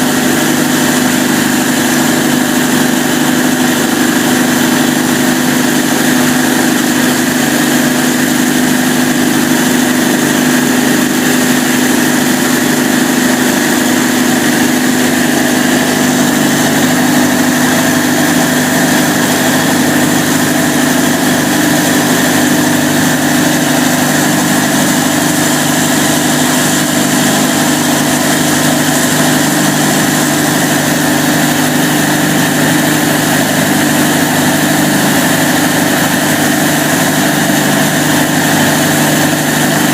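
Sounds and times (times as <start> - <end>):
diesel generator engine droning: 0.0 - 39.9.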